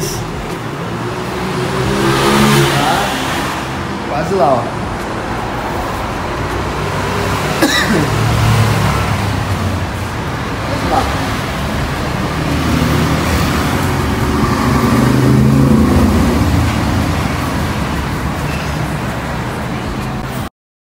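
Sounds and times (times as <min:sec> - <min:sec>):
motor vehicle engine running: 0:03.6 - 0:20.5.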